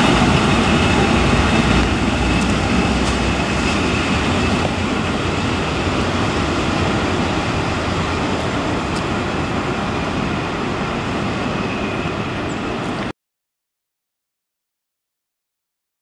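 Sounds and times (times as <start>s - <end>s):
train wheels rumbling on rail: 0.0s - 13.1s.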